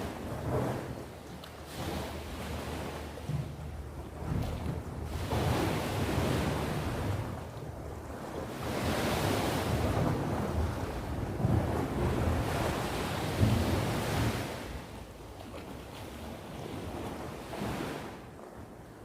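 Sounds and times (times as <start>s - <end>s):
sea waves breaking on shore: 0.0s - 19.0s
wind buffeting microphone: 0.0s - 19.0s.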